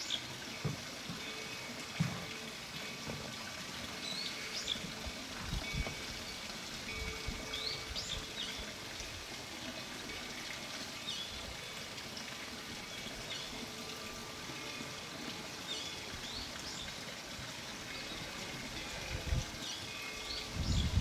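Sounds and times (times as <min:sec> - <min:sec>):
water flowing: 0:00.0 - 0:21.0
faint steady ringing tones: 0:00.2 - 0:20.7.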